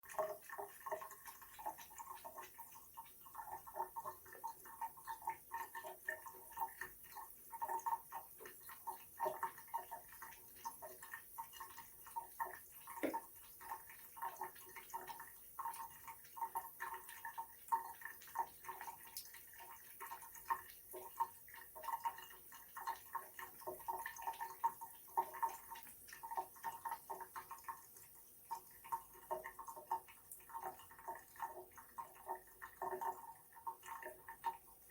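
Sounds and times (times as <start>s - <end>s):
water dripping from a faucet: 0.0s - 34.9s.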